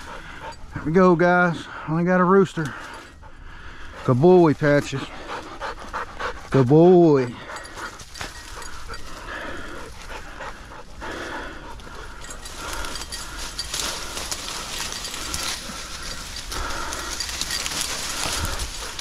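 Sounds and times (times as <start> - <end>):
brush and dry leaves rustling: 0.0 - 19.0
dog panting: 0.0 - 19.0.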